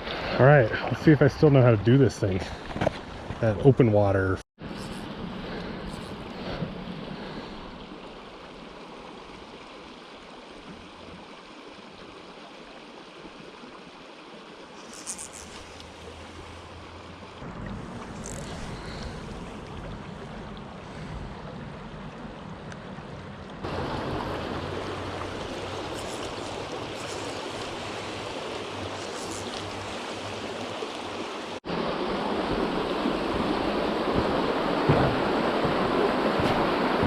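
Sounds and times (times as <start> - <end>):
creek running over rocks: 0.3 - 37.0.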